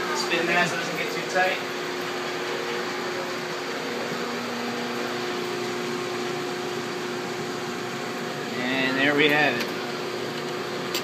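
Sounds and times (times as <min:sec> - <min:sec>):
fans and motors running: 0:00.0 - 0:11.0.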